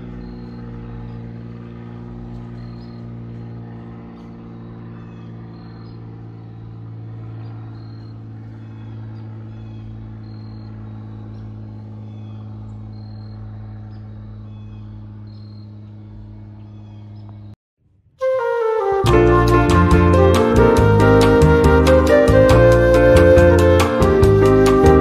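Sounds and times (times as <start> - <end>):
plane engine and propeller droning: 0.0 - 17.6, 18.2 - 25.0.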